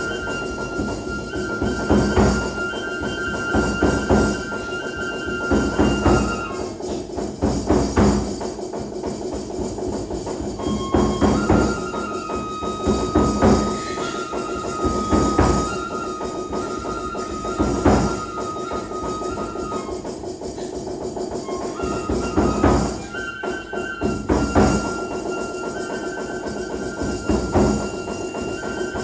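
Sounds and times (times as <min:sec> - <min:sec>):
high flute long notes: 0:00.0 - 0:07.0, 0:10.6 - 0:20.3, 0:21.4 - 0:29.0
drum strikes: 0:00.0 - 0:29.0.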